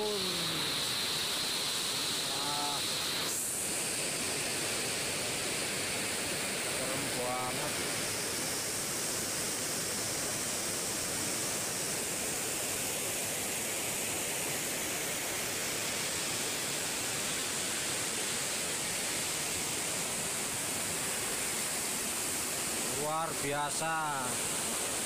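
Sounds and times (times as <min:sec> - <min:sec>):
floodwater rushing and churning: 0:00.0 - 0:25.0.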